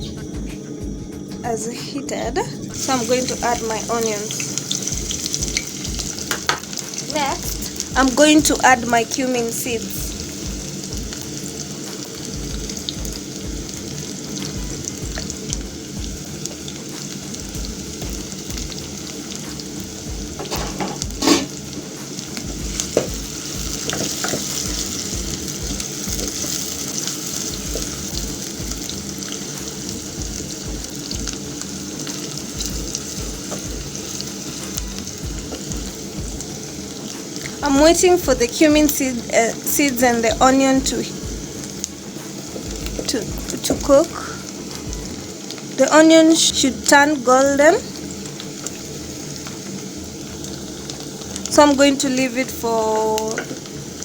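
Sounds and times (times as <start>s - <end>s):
onion sizzling in hot oil: 1.5s - 54.0s.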